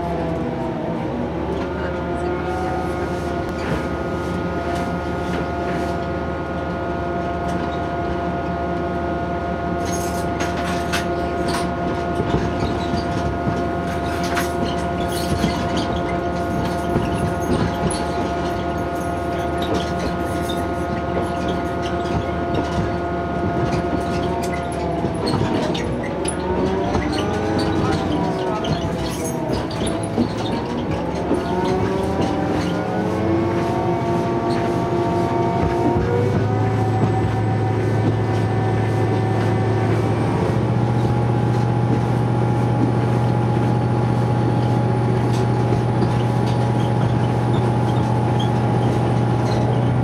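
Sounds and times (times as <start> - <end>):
diesel railcar engine: 0.0 - 50.0
rail-joint clicks under wheels: 9.8 - 50.0.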